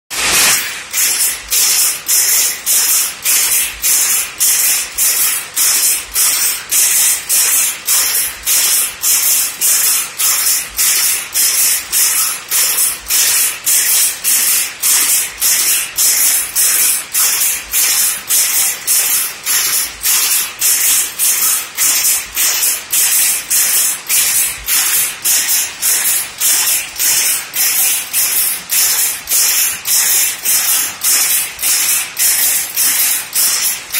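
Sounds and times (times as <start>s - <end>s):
power loom striking rhythmically: 0.1s - 33.9s.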